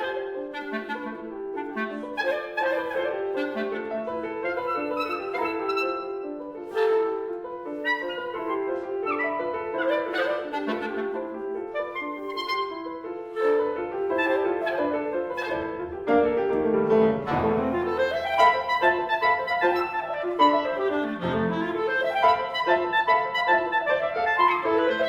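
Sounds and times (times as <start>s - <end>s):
clarinet: 0.0s - 25.0s
piano: 0.0s - 25.0s.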